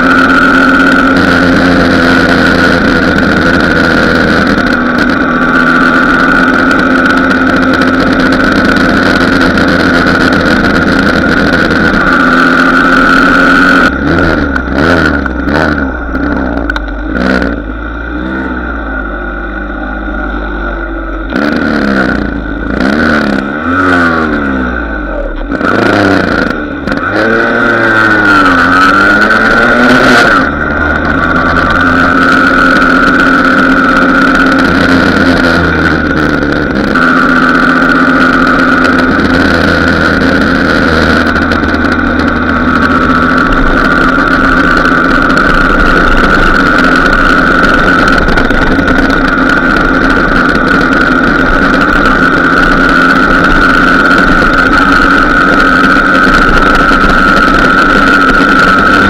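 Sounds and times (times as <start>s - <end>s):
two-stroke moped engine: 0.0s - 59.0s.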